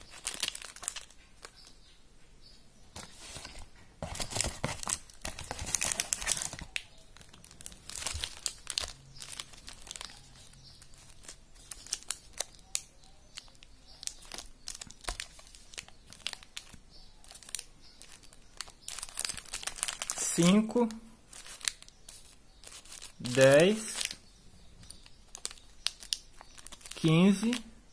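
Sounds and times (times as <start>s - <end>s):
plastic wrappers crinkling: 0.0s - 1.8s, 3.0s - 27.8s.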